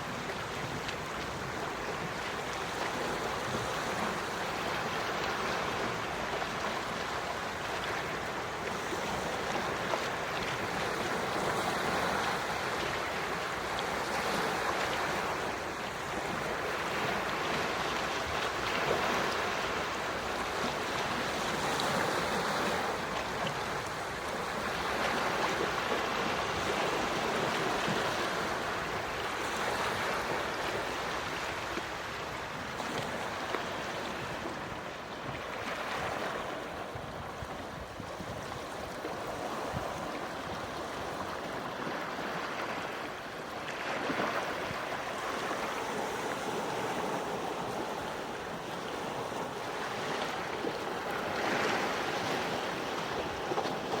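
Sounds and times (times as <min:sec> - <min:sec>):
sea waves washing on shore: 0:00.0 - 0:54.0.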